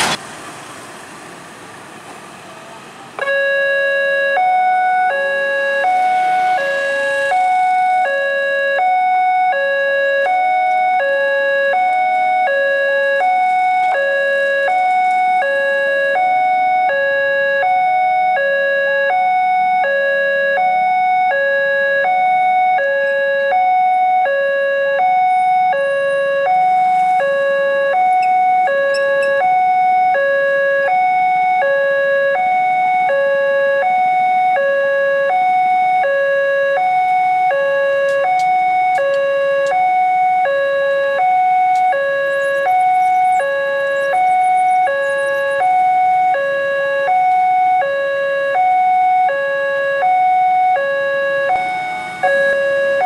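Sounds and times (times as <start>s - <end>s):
level crossing alarm two-tone: 3.2s - 53.0s.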